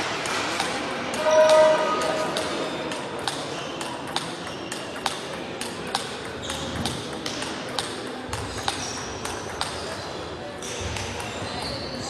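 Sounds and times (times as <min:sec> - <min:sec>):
table tennis ball clicks: 0:00.2 - 0:11.4.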